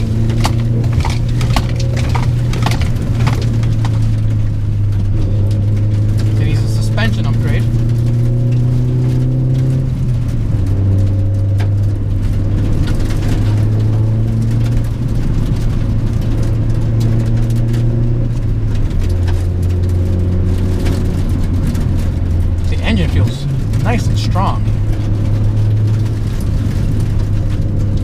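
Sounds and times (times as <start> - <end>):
car engine droning from inside: 0.0 - 28.0.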